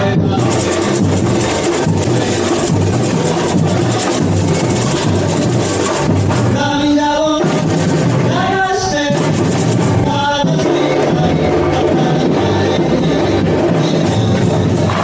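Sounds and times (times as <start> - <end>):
bass drums beating: 0.0 - 15.0
person singing: 0.0 - 15.0
samba drum band playing: 0.0 - 15.0.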